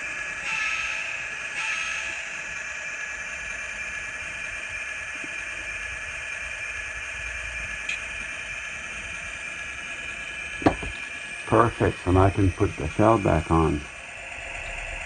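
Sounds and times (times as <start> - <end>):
model locomotive diesel idle sound: 0.0 - 15.0.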